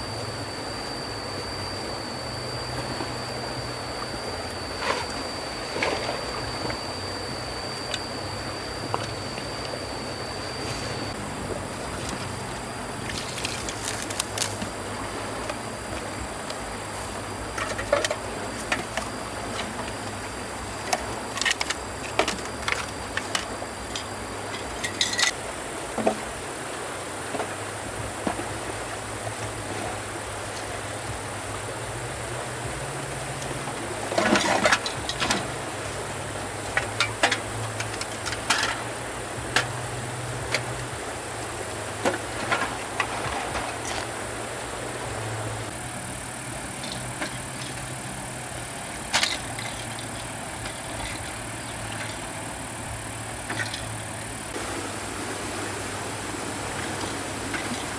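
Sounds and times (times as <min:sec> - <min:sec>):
high insect-like whine: 0:00.0 - 0:57.9
motor droning: 0:00.0 - 0:57.9.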